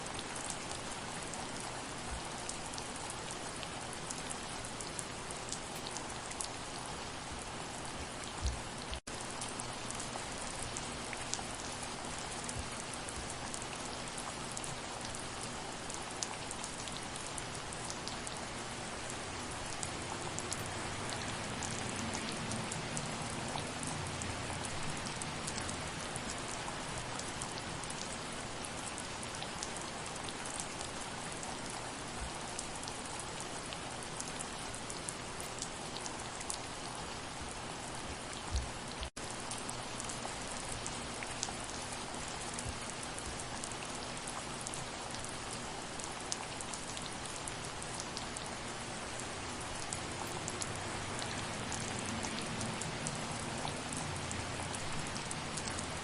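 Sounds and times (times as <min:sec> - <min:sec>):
raindrops ticking on a surface: 0:00.0 - 0:56.0
soft rain hiss: 0:00.0 - 0:56.0.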